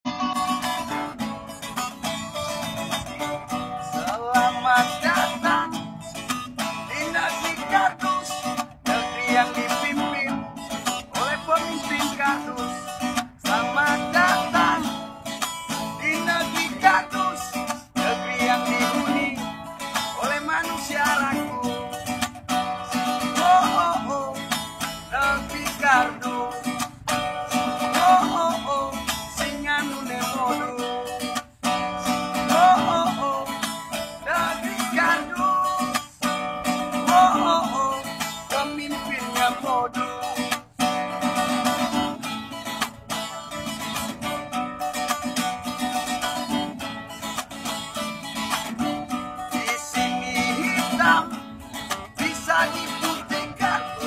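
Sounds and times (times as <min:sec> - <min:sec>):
acoustic guitar strummed and picked: 0:00.0 - 0:54.0.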